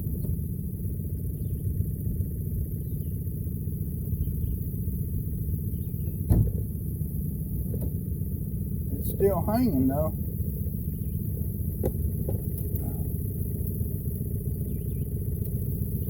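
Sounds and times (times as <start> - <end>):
boat motor idling: 0.0 - 16.0.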